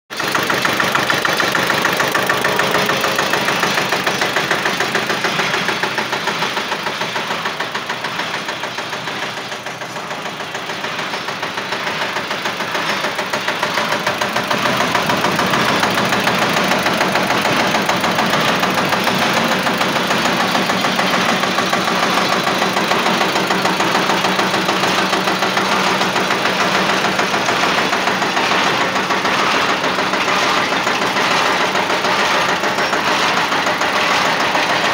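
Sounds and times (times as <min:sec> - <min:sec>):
diesel engine chugging: 0:00.1 - 0:34.9.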